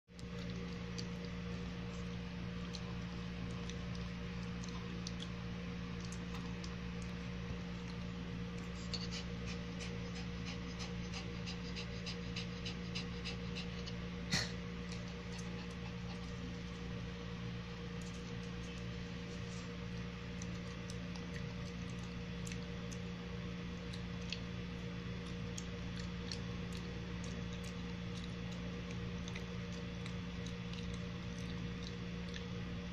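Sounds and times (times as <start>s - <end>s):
steady low hum: 0.1s - 32.9s.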